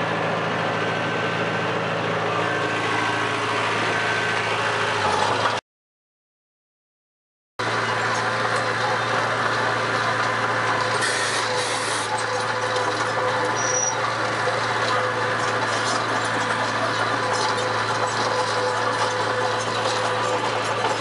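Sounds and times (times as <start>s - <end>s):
engine running steadily: 0.0s - 5.6s, 7.6s - 21.0s.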